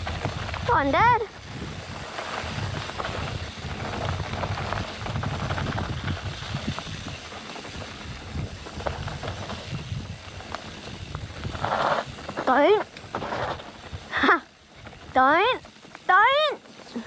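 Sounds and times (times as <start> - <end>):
wind rumbling on microphone: 0.0 - 15.8
bike knocking and rattling: 0.0 - 17.0
tyre noise on dirt: 0.0 - 17.0.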